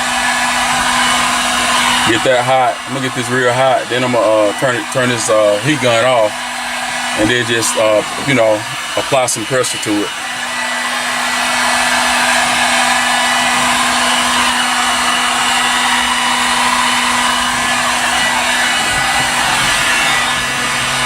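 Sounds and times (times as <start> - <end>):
heat gun fan humming: 0.0 - 21.0.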